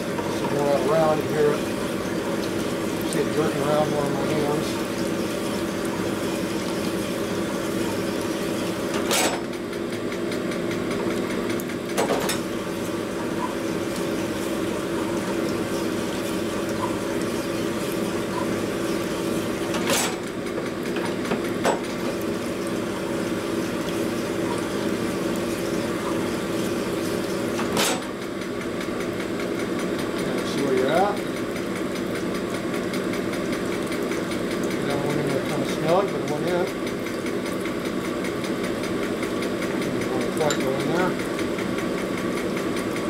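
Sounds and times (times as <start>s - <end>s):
machine motor running: 0.0s - 43.0s.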